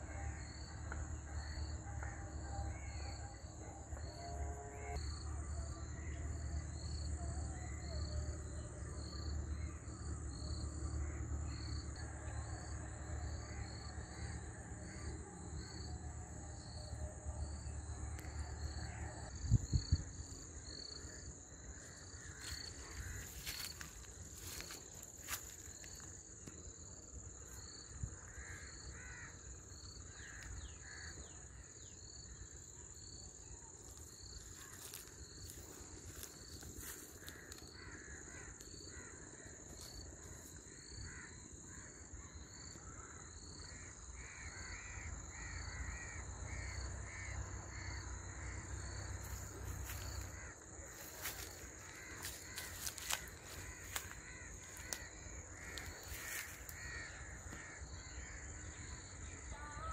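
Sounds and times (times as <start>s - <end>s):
high insect whine: 0.0s - 59.9s.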